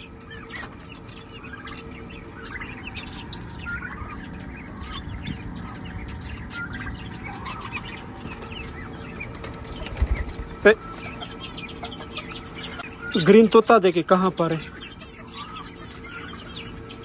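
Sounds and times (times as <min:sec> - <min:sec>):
faint steady hum: 0:00.0 - 0:17.0
young fowl chirping: 0:00.0 - 0:17.0.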